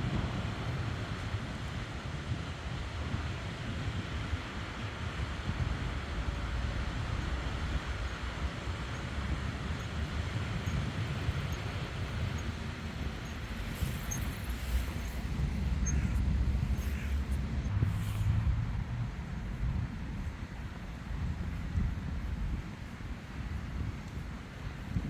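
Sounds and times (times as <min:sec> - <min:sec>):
sea waves washing on shore: 0:00.0 - 0:24.8
wind buffeting microphone: 0:00.0 - 0:25.0.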